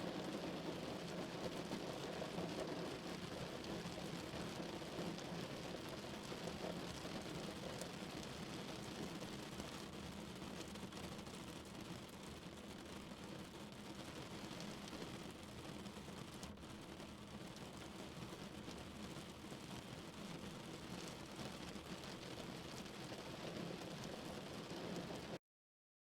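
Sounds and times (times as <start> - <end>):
rain on car roof: 0.1 - 25.4.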